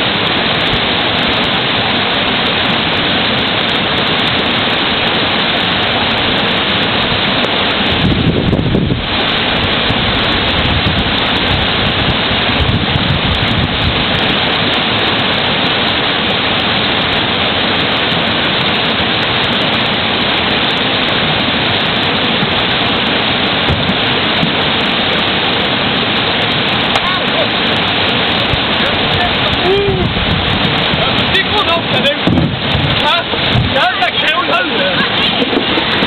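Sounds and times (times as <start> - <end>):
river rapids rushing: 0.0 - 36.0.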